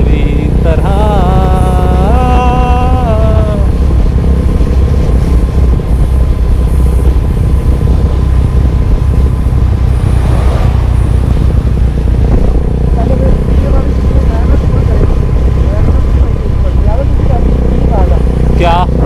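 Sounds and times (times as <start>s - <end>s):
motorcycle engine running: 0.0s - 19.0s
wind rumble on microphone: 0.0s - 19.0s.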